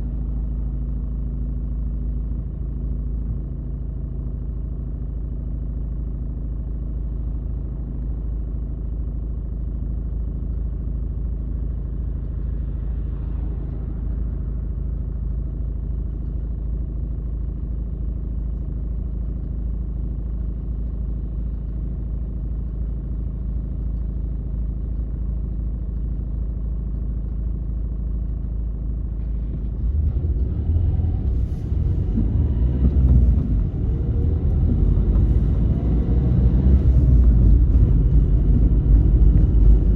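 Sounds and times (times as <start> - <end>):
car engine and road noise: 0.0 - 39.9
rough low rumble: 0.0 - 39.9.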